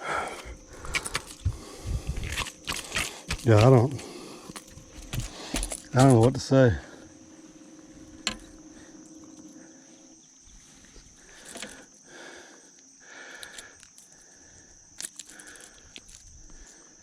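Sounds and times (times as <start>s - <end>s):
faint low hum: 0.0s - 17.0s
high-pitched insect drone: 0.0s - 17.0s.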